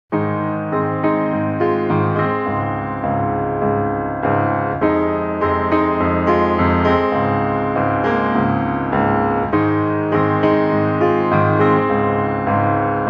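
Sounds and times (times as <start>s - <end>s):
gentle piano melody: 0.1s - 13.0s.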